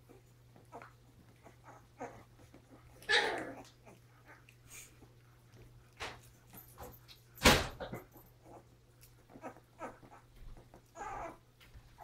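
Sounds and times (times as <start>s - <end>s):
puppies squeaking and whining: 0.0s - 6.9s, 7.8s - 12.0s.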